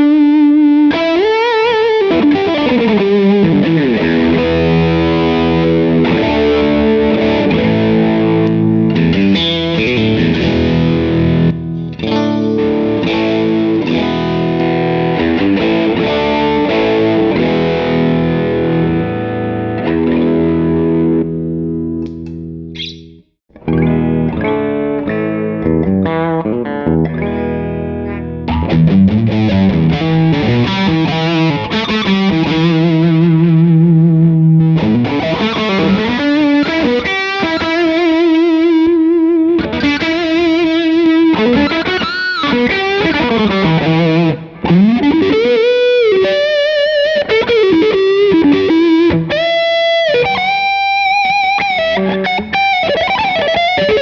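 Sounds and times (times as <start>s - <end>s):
distorted electric guitar: 0.0s - 54.0s.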